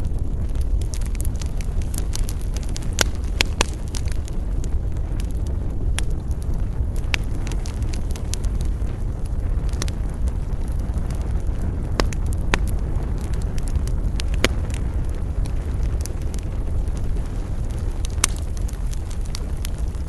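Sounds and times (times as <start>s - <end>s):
fire pops: 0.0s - 20.0s
wood fire crackling: 0.0s - 20.0s.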